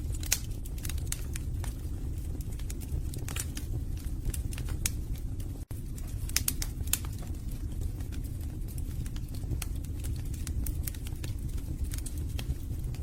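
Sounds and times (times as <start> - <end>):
fire rumbling: 0.0 - 13.0
logs crackling and popping: 0.0 - 13.0.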